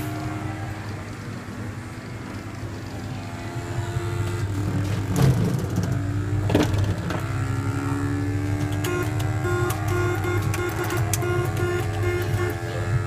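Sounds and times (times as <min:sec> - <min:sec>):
electronic motorbike engine buzz: 0:00.0 - 0:13.0.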